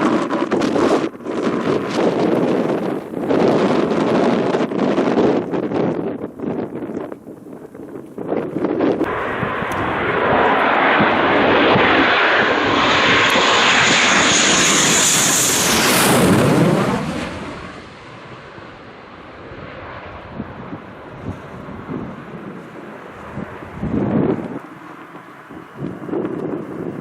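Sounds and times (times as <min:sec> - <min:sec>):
jet aircraft passing overhead: 0:00.0 - 0:06.1, 0:07.6 - 0:27.0.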